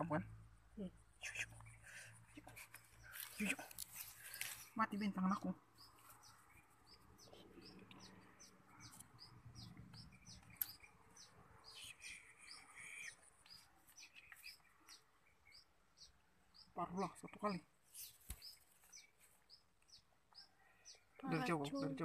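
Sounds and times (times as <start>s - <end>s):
faint high bird chirps: 4.2s - 22.0s.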